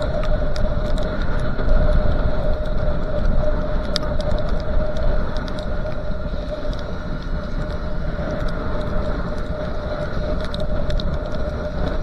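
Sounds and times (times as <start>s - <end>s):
constant hum: 0.0s - 12.0s
light ticks: 0.0s - 12.0s
wind and road noise: 0.0s - 12.0s.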